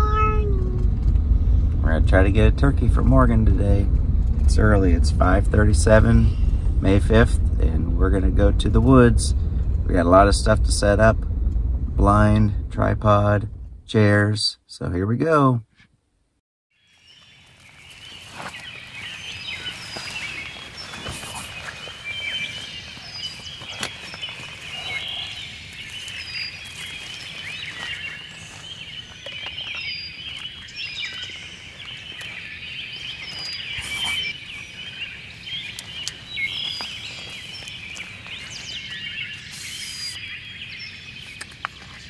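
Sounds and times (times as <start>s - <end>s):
birds chirping and singing: 1.9s - 11.0s, 16.8s - 42.0s.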